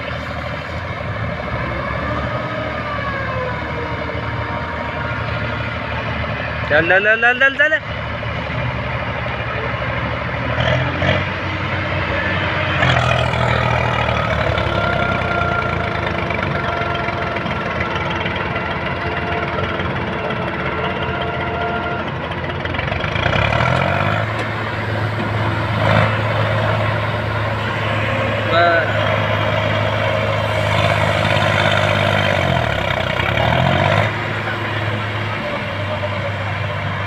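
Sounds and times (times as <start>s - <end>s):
diesel engines running under load: 0.0s - 37.0s.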